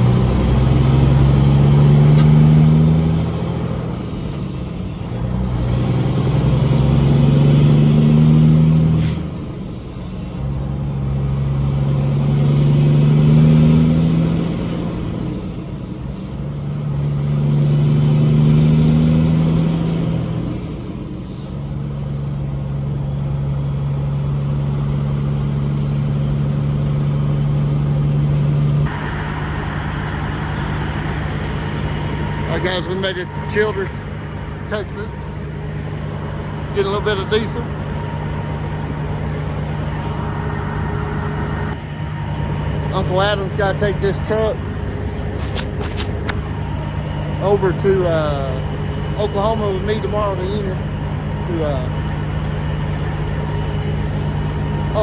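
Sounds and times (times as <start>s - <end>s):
diesel truck engine shifting gears: 0.0s - 55.0s.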